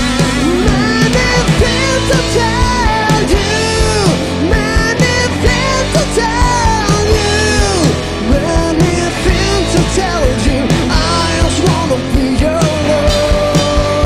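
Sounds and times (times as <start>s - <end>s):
drum kit steady beat: 0.0s - 14.0s
electric bass: 0.0s - 14.0s
electric guitars: 0.0s - 14.0s
man singing: 0.0s - 14.0s.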